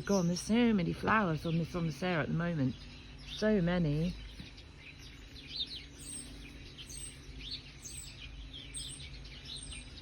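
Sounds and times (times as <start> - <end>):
faint steady low hum: 0.0 - 10.0
small birds chirping and trilling: 0.0 - 10.0.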